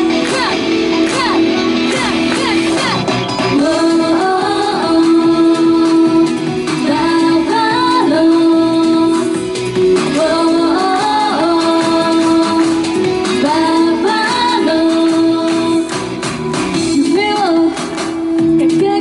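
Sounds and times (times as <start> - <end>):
instrumental backing track: 0.0 - 19.0
women singing pop song: 0.0 - 19.0.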